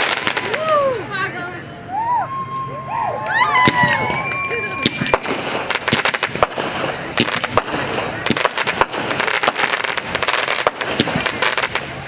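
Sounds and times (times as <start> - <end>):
fireworks crackling and banging: 0.0 - 1.6, 3.4 - 12.0.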